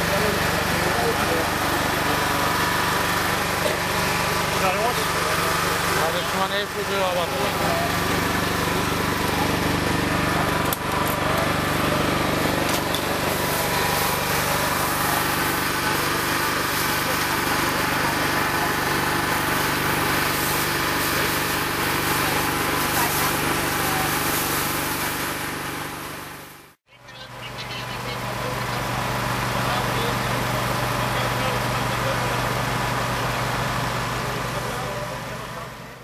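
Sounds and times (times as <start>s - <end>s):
motor engine humming: 0.0s - 36.0s.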